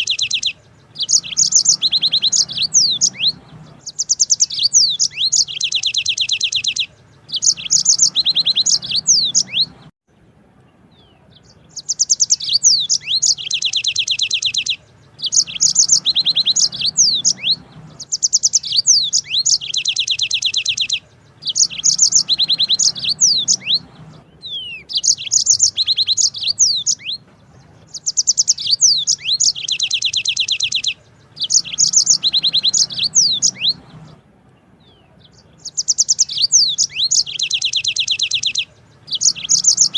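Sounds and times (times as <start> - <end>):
canary singing trills: 0.0 - 9.9, 10.7 - 39.9.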